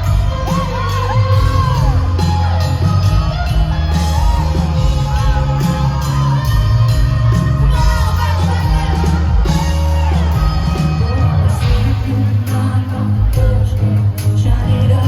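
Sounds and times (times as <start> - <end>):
live country band playing: 0.0 - 15.0
woman singing: 0.0 - 15.0.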